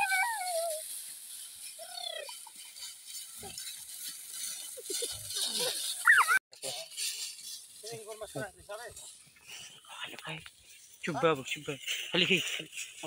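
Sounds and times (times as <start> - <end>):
straw rustling: 0.0 - 13.0.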